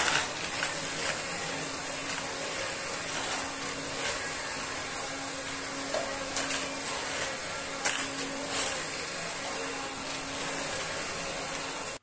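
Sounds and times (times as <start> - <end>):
cordless vacuum cleaner running: 0.0 - 12.0.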